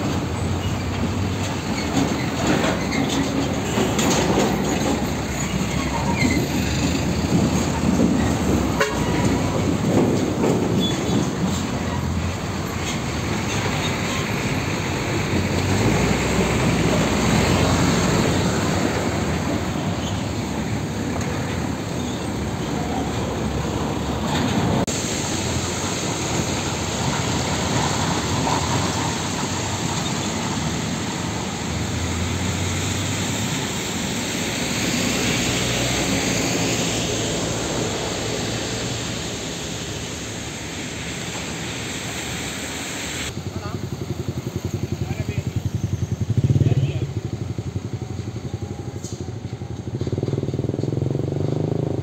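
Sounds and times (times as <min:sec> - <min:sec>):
tyre noise on wet road: 0:00.0 - 0:48.5
diesel trucks passing: 0:00.0 - 0:52.0.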